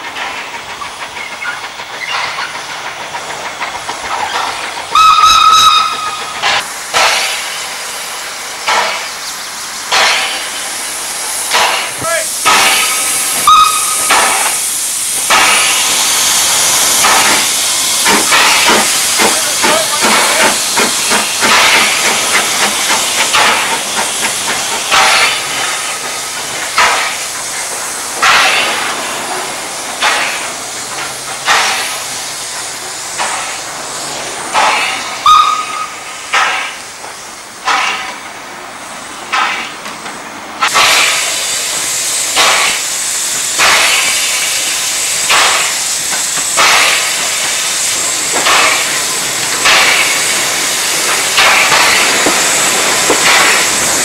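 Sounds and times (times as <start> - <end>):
steam hiss: 0.0 - 54.0
steam locomotive exhaust chuffs: 0.0 - 54.0.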